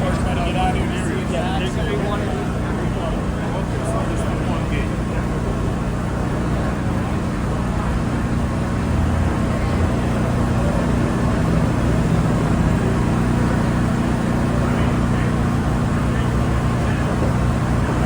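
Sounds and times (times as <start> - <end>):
low mechanical hum: 0.0 - 18.0
road traffic noise: 0.0 - 18.0.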